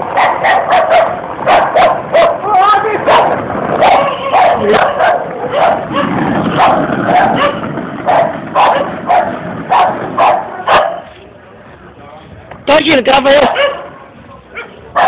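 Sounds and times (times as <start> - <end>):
dog barking: 0.0 - 2.4, 3.0 - 11.1, 13.4 - 15.0.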